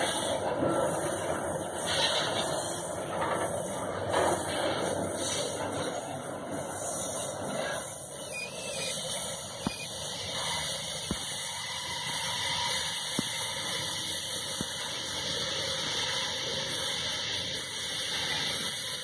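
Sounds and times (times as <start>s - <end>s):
freight wagon wheels hissing on rails: 0.0s - 19.0s.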